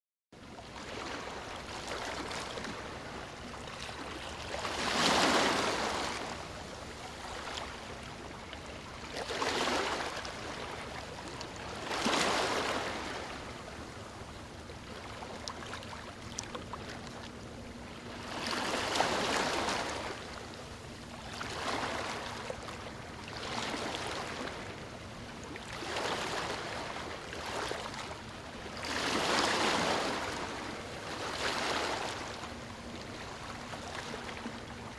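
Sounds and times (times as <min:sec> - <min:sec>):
ocean waves breaking on shore: 0:00.5 - 0:34.9.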